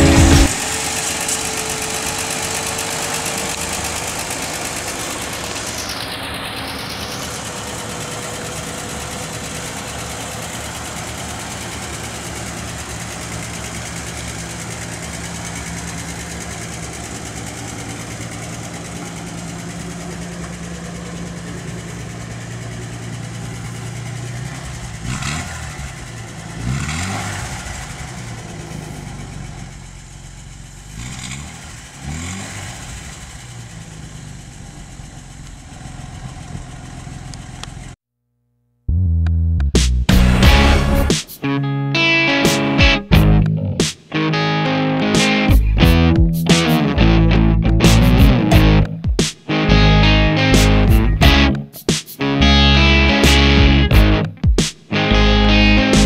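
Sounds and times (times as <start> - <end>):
car engine idling: 0.0 - 38.0, 40.1 - 41.2, 42.1 - 43.8, 44.4 - 56.0
engine throttle blips: 0.0 - 38.0, 38.8 - 56.0.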